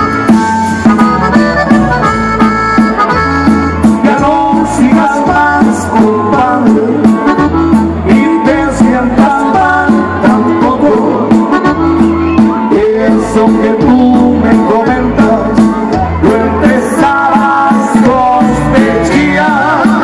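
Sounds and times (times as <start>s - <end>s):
accordion melody: 0.0s - 20.0s
live band through loud pa: 0.0s - 20.0s.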